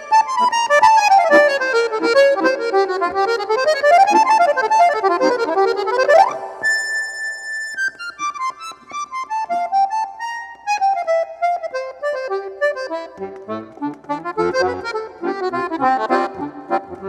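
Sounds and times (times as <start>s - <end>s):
accordion playing: 0.0s - 17.0s.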